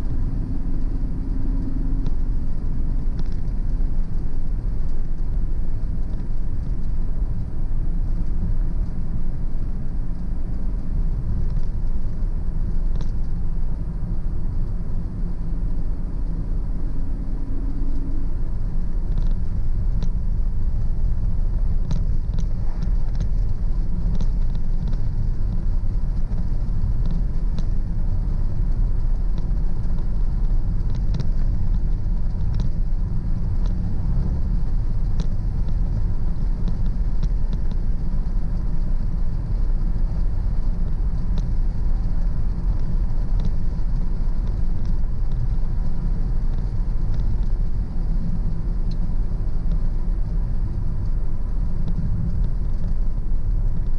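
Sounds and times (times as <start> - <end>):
faint light ticks: 0.0 - 16.6, 18.7 - 53.9
car road and engine rumble: 0.0 - 53.9.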